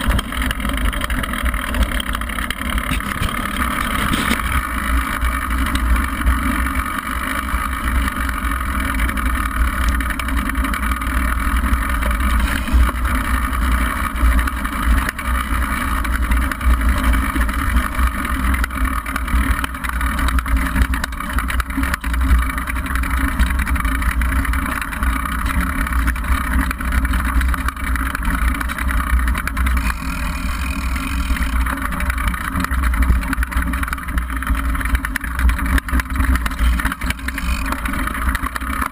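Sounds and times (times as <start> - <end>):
bike tyres over gravel: 0.0 - 38.9
fine rattling of bike: 0.0 - 38.9.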